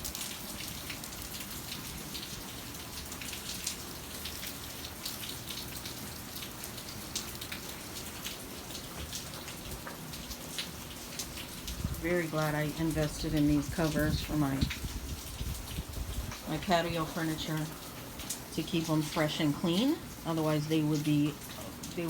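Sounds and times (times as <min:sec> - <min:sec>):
raindrops ticking on surfaces: 0:00.0 - 0:22.0
steady rain falling: 0:00.0 - 0:22.0.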